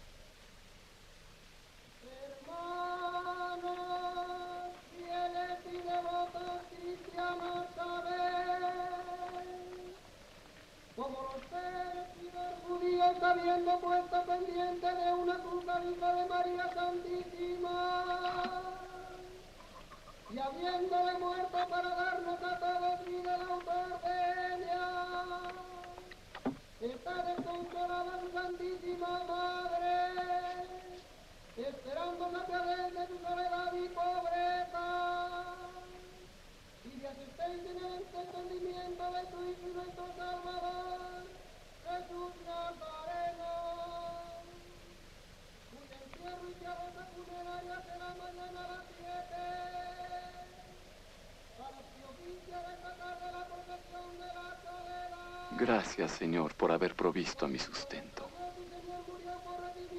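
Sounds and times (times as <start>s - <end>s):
wordless chant-like singing: 1.9s - 59.9s.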